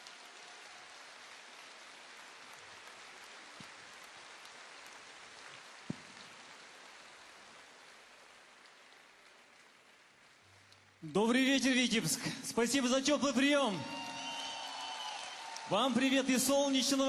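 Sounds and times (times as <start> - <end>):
audience applause: 0.0 - 11.0, 13.2 - 17.0.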